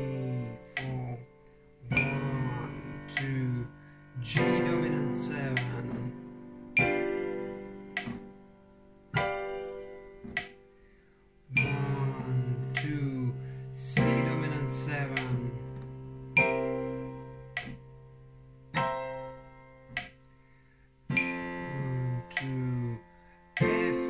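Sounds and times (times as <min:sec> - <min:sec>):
digital piano chords: 0:00.0 - 0:24.0.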